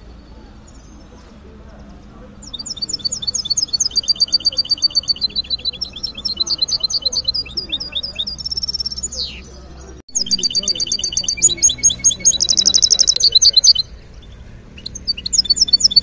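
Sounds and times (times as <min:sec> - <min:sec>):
finch singing chirps and trills: 0:00.1 - 0:16.0.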